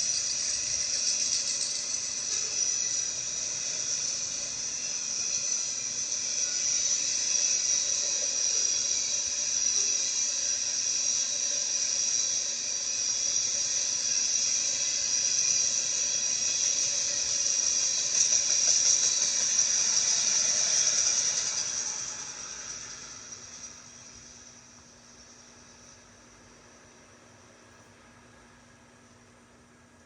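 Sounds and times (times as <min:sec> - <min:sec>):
freight cars rolling on rails: 0:00.0 - 0:27.2.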